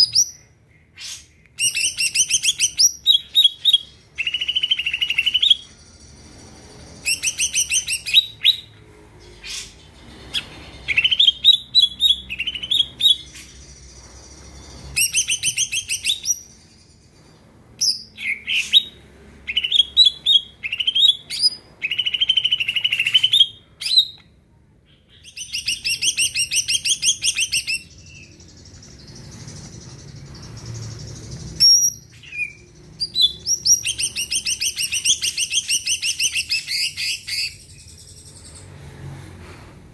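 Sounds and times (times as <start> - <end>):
bird singing trills and whistles: 0.0 - 8.7, 9.4 - 17.2, 17.8 - 24.3, 24.9 - 38.7.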